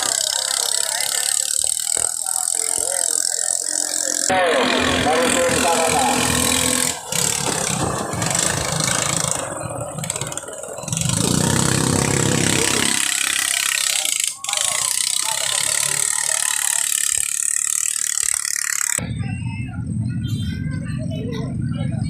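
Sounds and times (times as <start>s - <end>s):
boat engines running: 0.0s - 19.1s
people's voices: 0.0s - 22.0s.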